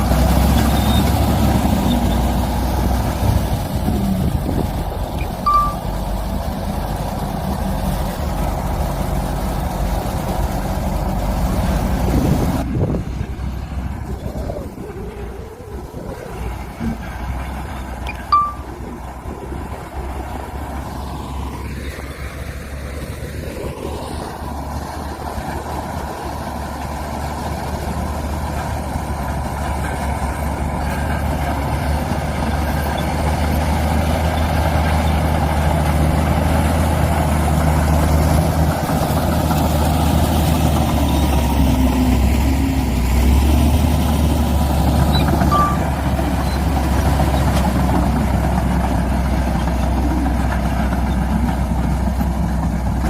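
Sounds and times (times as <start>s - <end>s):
heavy diesel machinery engine drone: 0.0s - 53.0s.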